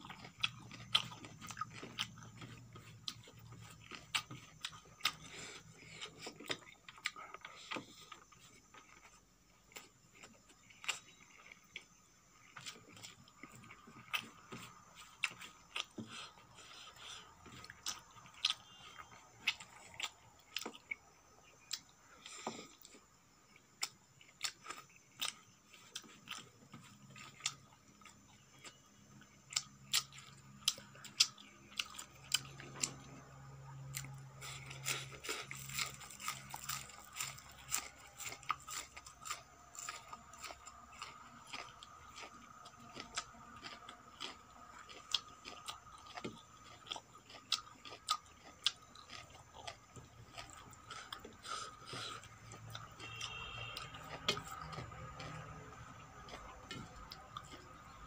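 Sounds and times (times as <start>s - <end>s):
person chewing crunchy onion: 0.0s - 58.0s.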